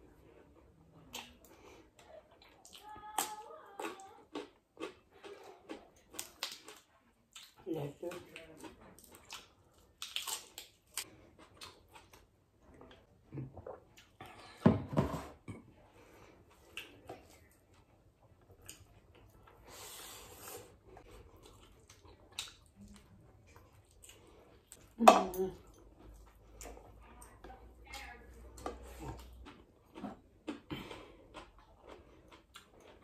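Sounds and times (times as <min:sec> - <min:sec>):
chewing and lip smacks: 0:00.8 - 0:14.3, 0:16.5 - 0:19.6, 0:21.0 - 0:25.0, 0:25.6 - 0:33.0.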